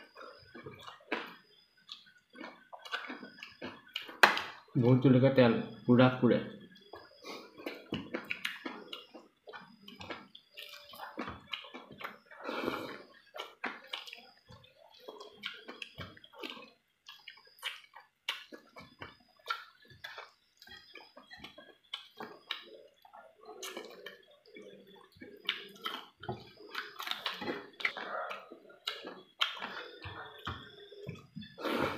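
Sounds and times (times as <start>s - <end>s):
man chewing and lip smacking: 0.0s - 4.6s, 6.7s - 31.9s.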